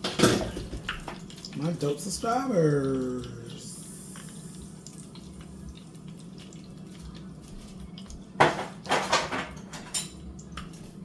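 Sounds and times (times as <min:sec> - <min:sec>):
deep-frying crackle: 0:00.0 - 0:11.0.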